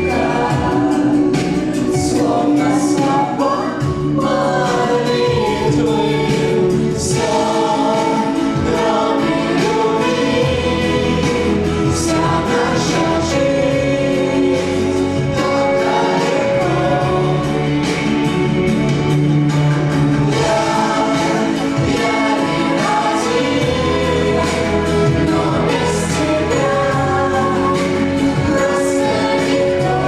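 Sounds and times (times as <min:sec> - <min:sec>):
choir-like singing with instruments: 0:00.0 - 0:30.0.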